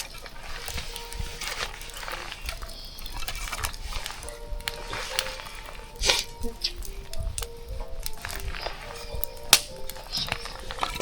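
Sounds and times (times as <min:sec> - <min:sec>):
music with held notes: 0:00.0 - 0:11.0
scattered clicks and taps: 0:00.0 - 0:11.0.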